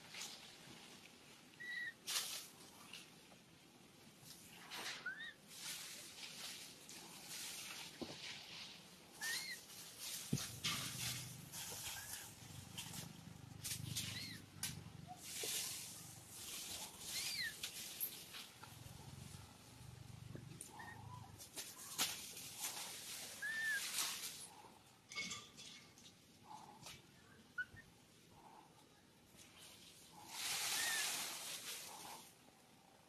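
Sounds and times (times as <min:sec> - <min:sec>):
rustling: 0:00.0 - 0:03.6, 0:04.2 - 0:27.7, 0:28.4 - 0:33.0.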